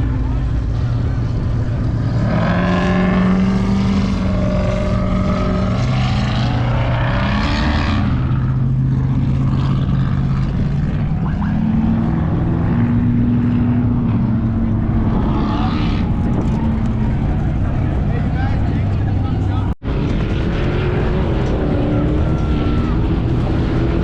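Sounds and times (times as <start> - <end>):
constant wash of noise: 0.0 - 24.0
vehicle engines running: 0.0 - 24.0.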